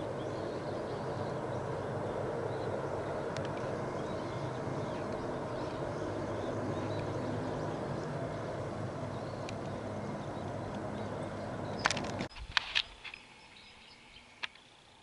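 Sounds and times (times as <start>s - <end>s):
distant hovercraft drone: 0.0s - 15.0s.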